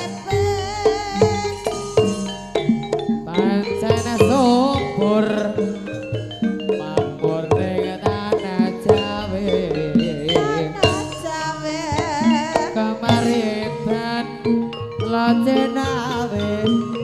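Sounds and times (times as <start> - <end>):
person singing with vibrato: 0.0 - 2.6, 3.2 - 17.0
hand drum strokes: 0.0 - 17.0
ringing metallophone notes: 0.0 - 17.0.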